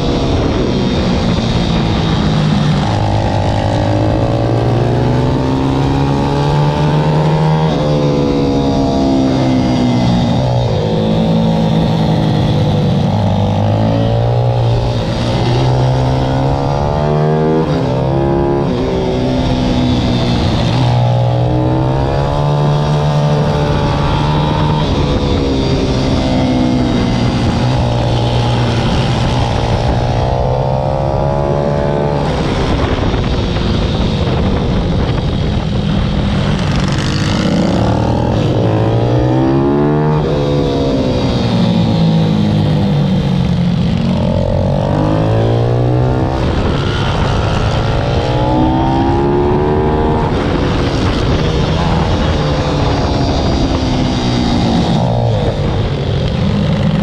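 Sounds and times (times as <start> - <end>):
pit bike engine revving: 0.0 - 57.0.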